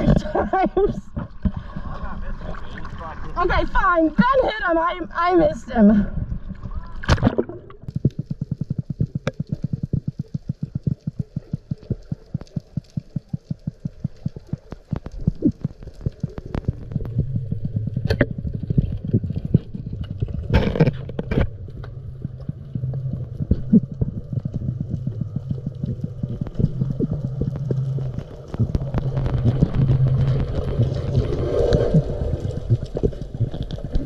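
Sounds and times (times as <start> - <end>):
underwater knocks and clicks: 0.0 - 2.0, 6.2 - 34.0
low underwater drone: 6.1 - 34.0.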